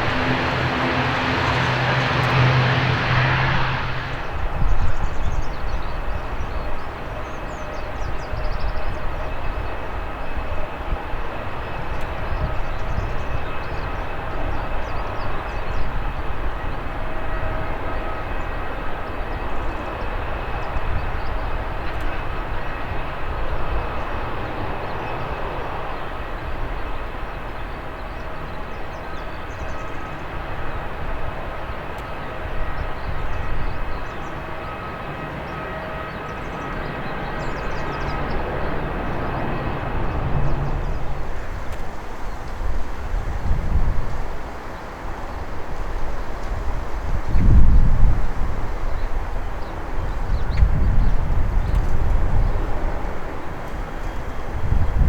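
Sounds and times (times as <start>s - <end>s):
loud rushing turboprop noise: 0.0s - 55.0s
strong wind buffeting microphone: 0.0s - 55.0s
turboprop engines humming: 0.0s - 55.0s.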